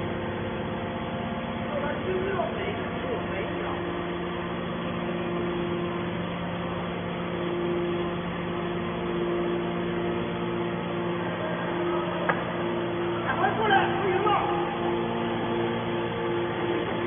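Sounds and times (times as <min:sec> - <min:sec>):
baler motor humming: 0:00.0 - 0:17.0.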